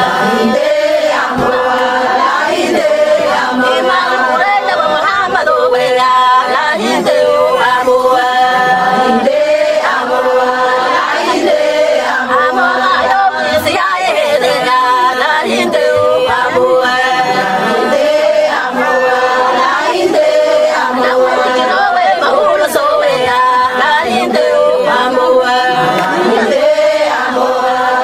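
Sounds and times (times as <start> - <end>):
group of voices singing: 0.0 - 28.0.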